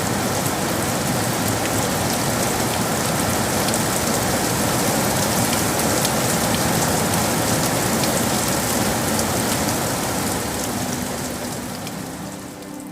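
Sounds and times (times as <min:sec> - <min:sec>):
steady rain hiss: 0:00.0 - 0:12.9.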